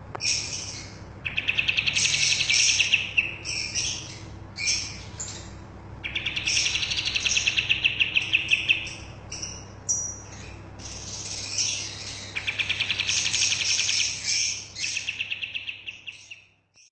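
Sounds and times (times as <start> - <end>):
songbird trilling and chattering: 0.1 - 16.9.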